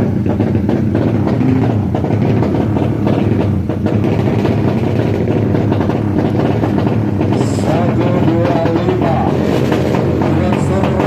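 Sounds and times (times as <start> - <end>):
motorbike engines rumbling: 0.0 - 11.0.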